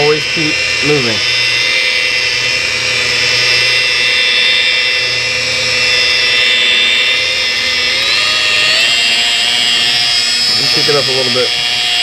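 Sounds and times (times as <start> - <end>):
rotary polisher motor whine: 0.0 - 12.0.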